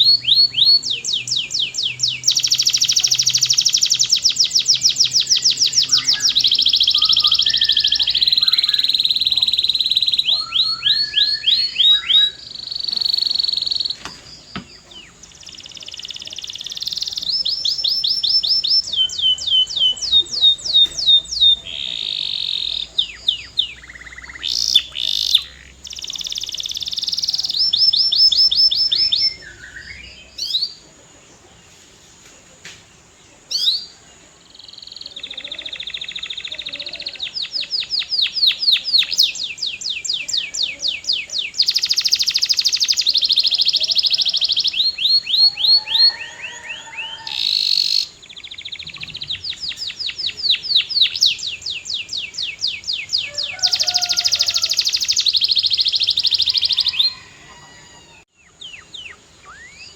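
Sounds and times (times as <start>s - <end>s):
canary singing trills: 0.0s - 31.6s, 33.4s - 59.9s.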